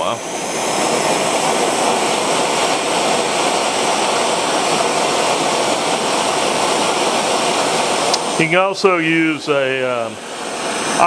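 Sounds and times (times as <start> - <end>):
gas torch hissing: 0.0 - 11.0.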